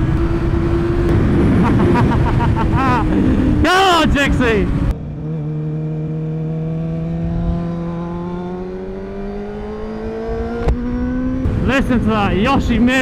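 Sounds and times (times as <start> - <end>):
motorcycle engine accelerating: 0.0 - 12.4.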